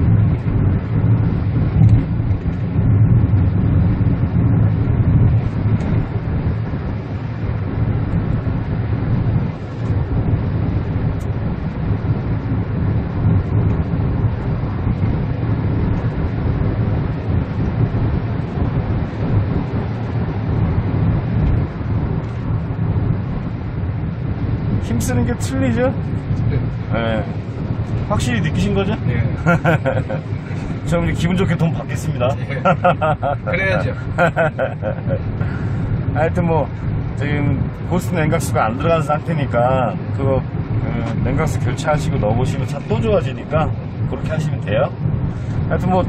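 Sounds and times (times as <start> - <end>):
car interior road and engine noise: 0.0 - 46.0.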